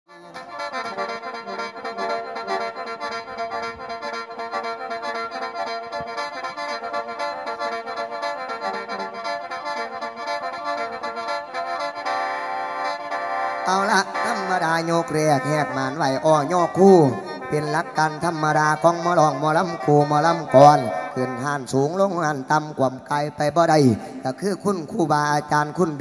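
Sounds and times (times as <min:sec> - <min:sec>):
free-reed mouth organ playing: 0:00.1 - 0:26.0.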